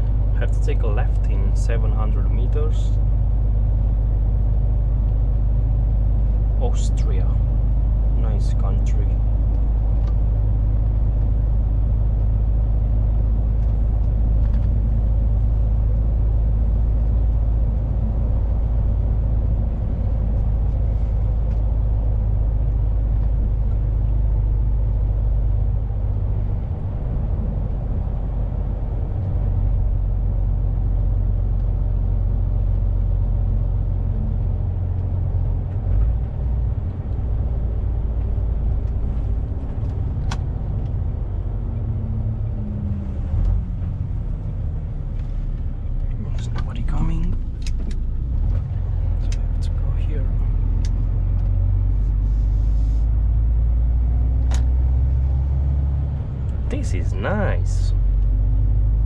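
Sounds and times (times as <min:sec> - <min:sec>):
truck engine drone from cab: 0:00.0 - 0:59.0.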